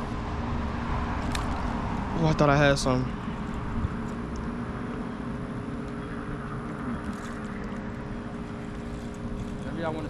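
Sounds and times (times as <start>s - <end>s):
engine hum with rumble and hiss: 0.0s - 10.0s.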